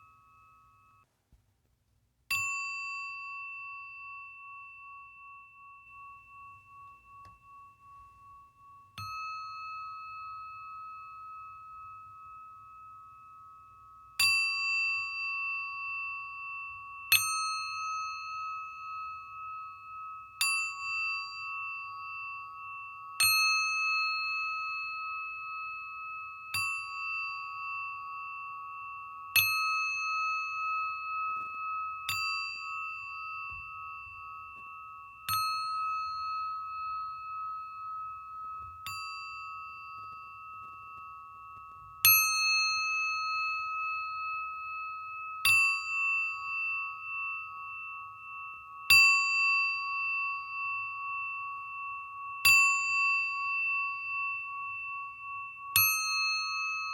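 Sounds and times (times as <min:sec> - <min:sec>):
singing bowl ringing: 0:00.0 - 0:01.1, 0:02.3 - 0:56.9.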